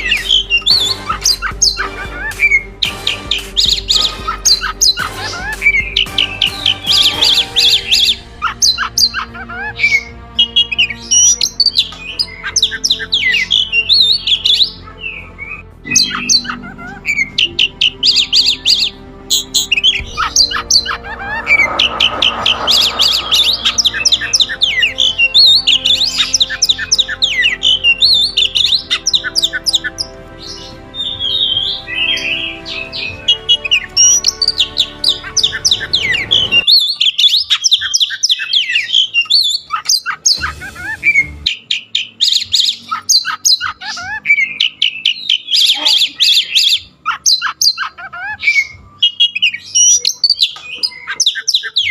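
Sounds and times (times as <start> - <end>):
background music: 0.0 - 51.9
songbird singing: 0.0 - 51.9.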